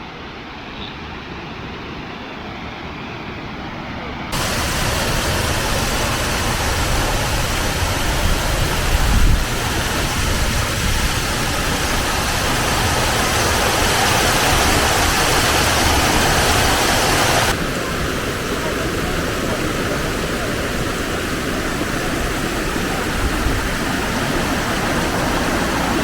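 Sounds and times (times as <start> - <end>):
waterfall roaring: 4.3 - 26.0.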